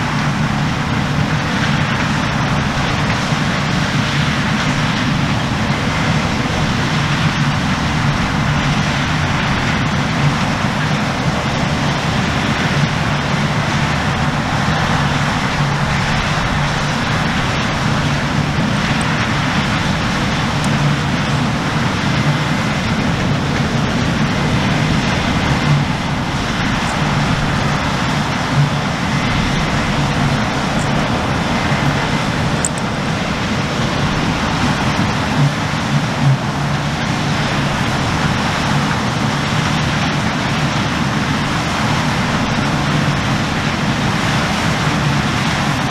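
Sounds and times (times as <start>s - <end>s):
combine harvester droning: 0.0s - 45.9s.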